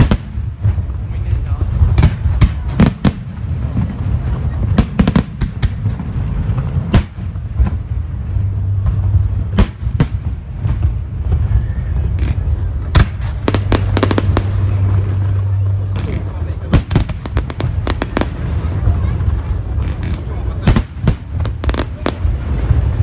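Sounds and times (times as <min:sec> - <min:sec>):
fireworks bangs and crackles: 0:00.0 - 0:23.0
low rumble: 0:00.0 - 0:23.0.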